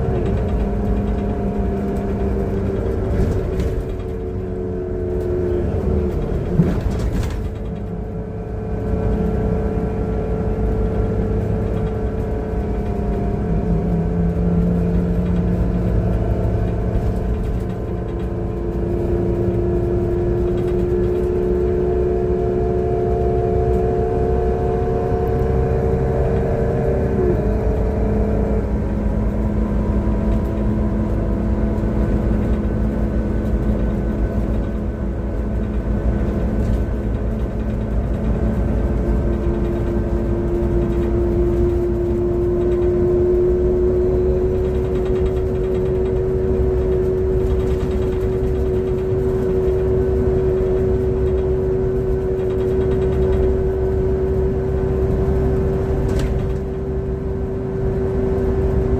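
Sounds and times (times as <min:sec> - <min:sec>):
bus engine rumble and whine: 0:00.0 - 0:58.9.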